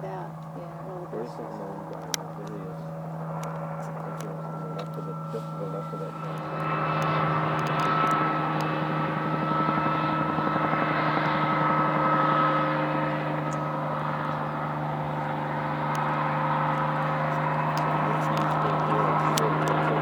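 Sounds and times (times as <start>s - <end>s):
helicopter running: 0.0s - 20.0s.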